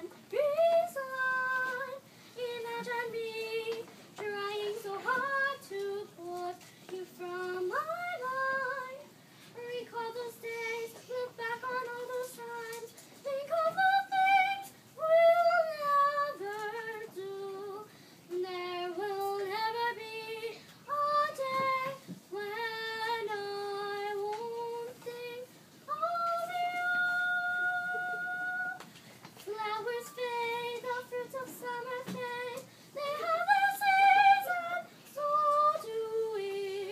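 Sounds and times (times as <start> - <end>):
girl singing: 0.0 - 28.8, 29.4 - 36.9.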